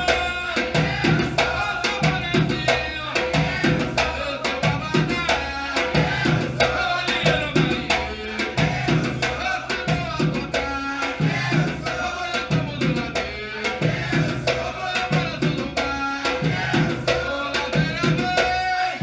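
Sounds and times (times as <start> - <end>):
percussion ensemble drumming: 0.0 - 19.0.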